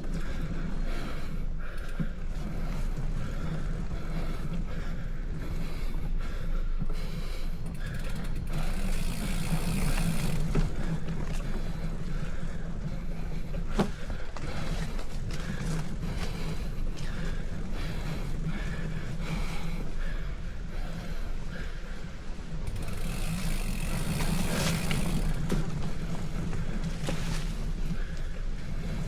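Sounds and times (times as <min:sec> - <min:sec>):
wind and riding noise: 0:00.0 - 0:29.0.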